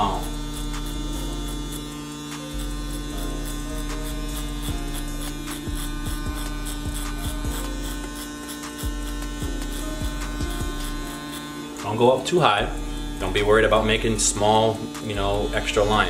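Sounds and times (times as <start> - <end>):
clipper blade cutting hair: 0.0 - 16.0
electric hair clipper humming: 0.0 - 16.0.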